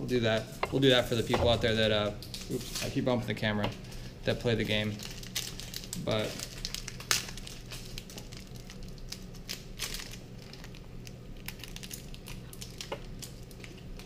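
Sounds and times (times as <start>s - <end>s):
faint low hum: 0.0s - 14.0s
foil wrapper crinkling and tearing: 0.3s - 3.1s, 3.8s - 14.0s.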